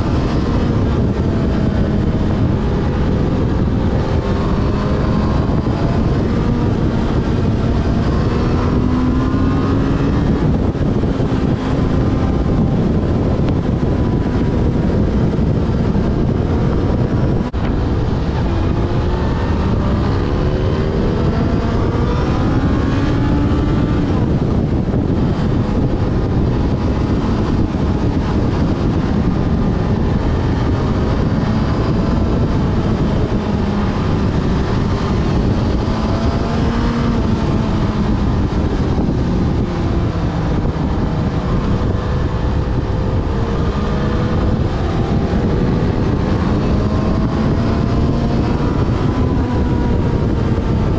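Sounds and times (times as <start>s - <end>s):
motorcycle engine revving: 0.0s - 50.9s
wind rushing over microphone: 0.0s - 50.9s.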